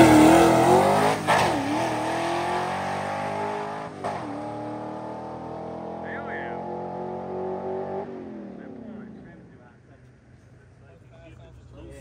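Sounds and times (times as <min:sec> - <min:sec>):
drag car engine accelerating: 0:00.0 - 0:12.0.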